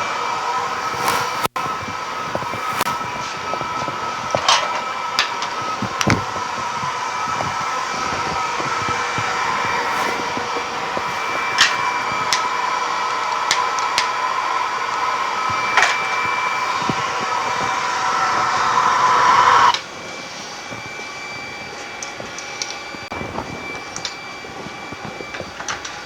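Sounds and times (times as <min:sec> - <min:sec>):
steady hum: 0:00.0 - 0:21.6
gas burner hissing: 0:00.0 - 0:26.0.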